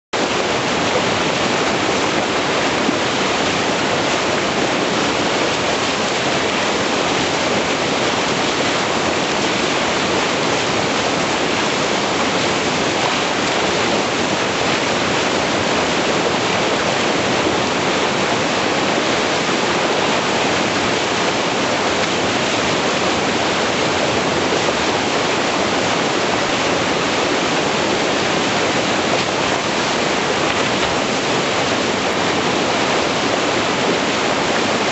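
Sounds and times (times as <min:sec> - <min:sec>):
whitewater rushing: 0:00.2 - 0:34.9.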